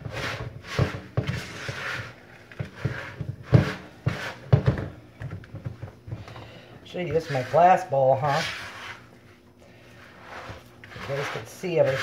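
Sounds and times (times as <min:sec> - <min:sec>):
spatula scraping plastic bowl: 0:00.0 - 0:04.9, 0:06.9 - 0:12.0.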